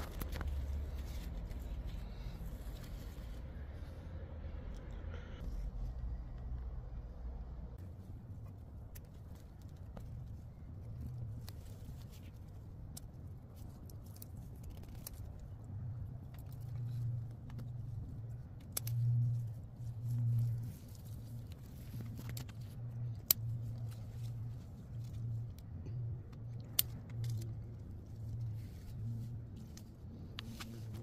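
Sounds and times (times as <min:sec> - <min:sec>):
hands rustling plants: 0:00.0 - 0:04.0, 0:07.8 - 0:31.0
low uneven hum: 0:00.0 - 0:31.0.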